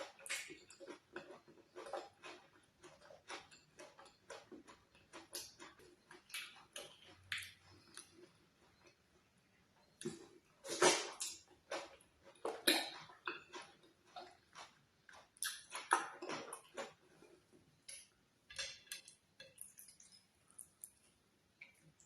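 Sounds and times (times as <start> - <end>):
wet chewing clicks and smacks: 0.0 - 9.0, 10.9 - 17.0, 18.8 - 22.0.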